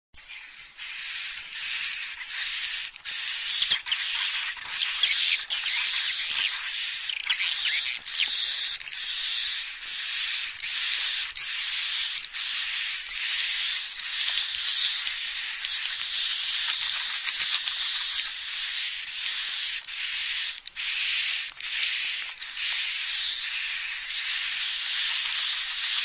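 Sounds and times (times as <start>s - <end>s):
clicking chirps: 0.2s - 26.0s.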